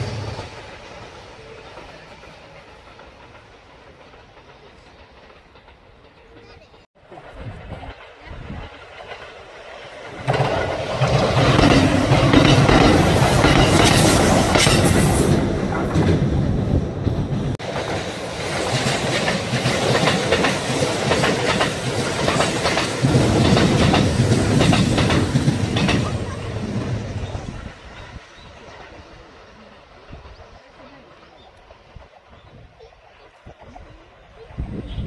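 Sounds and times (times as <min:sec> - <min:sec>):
train wheels clacking on rail joints: 0:00.0 - 0:16.4, 0:17.0 - 0:29.2.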